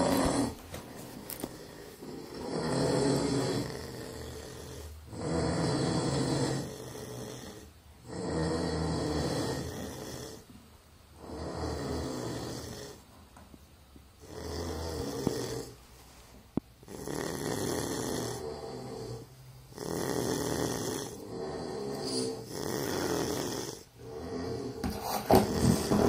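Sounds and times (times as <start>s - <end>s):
pet snoring: 0.0s - 10.5s, 11.2s - 13.0s, 14.2s - 15.8s, 16.8s - 26.0s.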